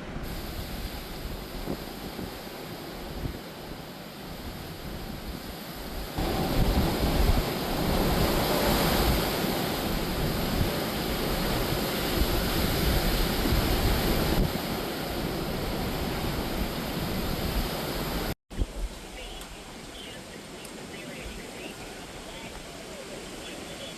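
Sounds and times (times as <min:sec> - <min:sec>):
hurricane wind rushing: 0:00.0 - 0:23.9
surf: 0:00.0 - 0:23.9
wind buffeting microphone: 0:00.0 - 0:23.9.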